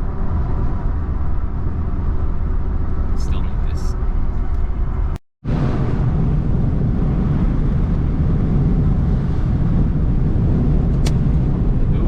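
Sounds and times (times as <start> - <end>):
truck engine and road rumble: 0.0 - 12.0
wind buffeting vehicle: 0.0 - 12.0.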